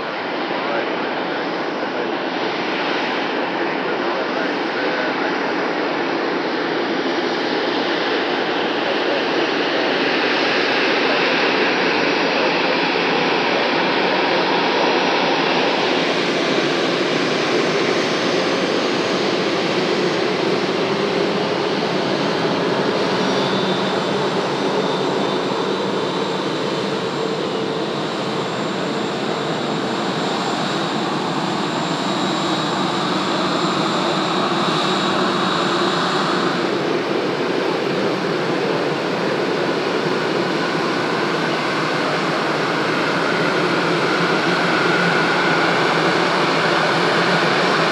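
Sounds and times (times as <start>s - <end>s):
jet engines idling: 3.9s - 47.9s.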